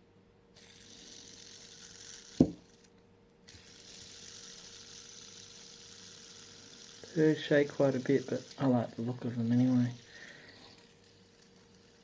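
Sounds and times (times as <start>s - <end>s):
fidget spinner whirring: 0.6s - 12.0s.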